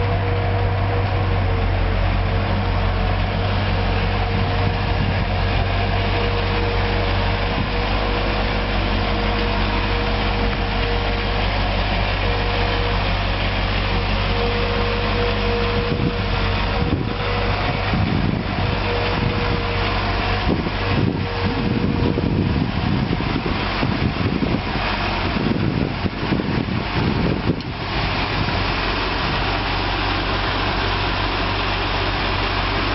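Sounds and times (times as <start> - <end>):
low rumbles: 0.0 - 32.9
truck engine idling: 0.0 - 32.9.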